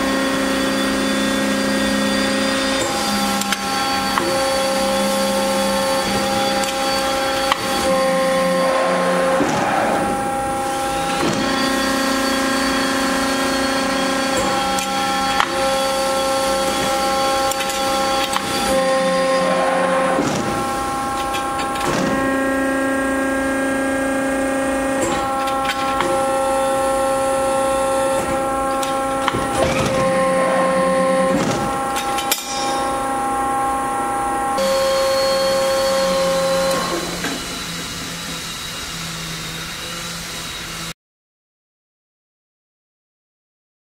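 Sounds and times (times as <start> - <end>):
hydraulic press hum and whine: 0.0 - 41.0.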